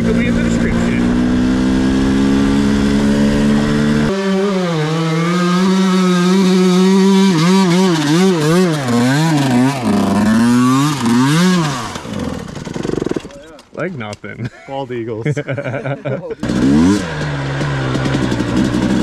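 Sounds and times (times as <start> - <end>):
two-stroke dirt bike engine revving: 0.0 - 13.4, 16.3 - 19.0.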